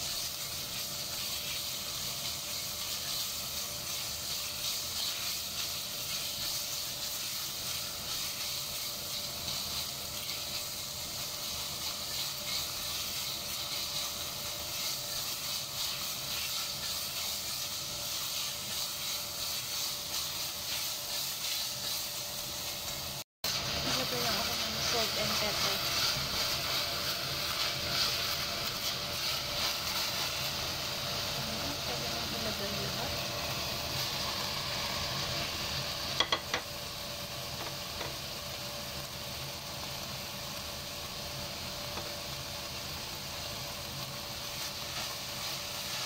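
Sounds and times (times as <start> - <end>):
spatula stirring in pot: 0.0 - 35.5, 44.0 - 46.0
chicken sizzling in oil: 0.0 - 46.0.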